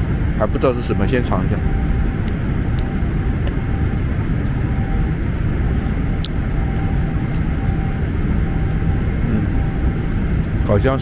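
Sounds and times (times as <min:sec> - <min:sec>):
faint steady hum: 0:00.0 - 0:11.0
jet airliner cabin roar: 0:00.0 - 0:11.0.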